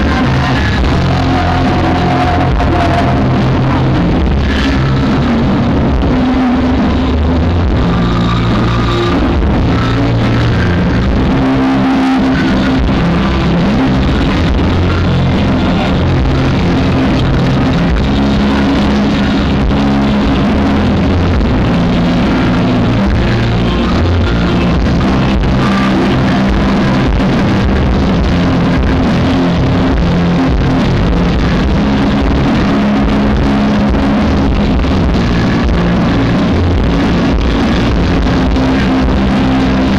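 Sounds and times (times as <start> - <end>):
distorted live rock band: 0.0 - 39.9.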